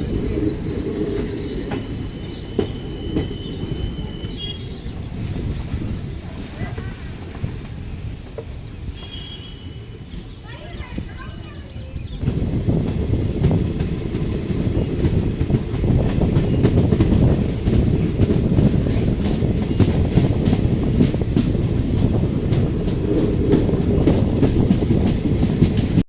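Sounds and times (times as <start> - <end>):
train wheels rumbling on track: 0.0 - 26.0
clickety-clack over rail joints: 0.2 - 26.0.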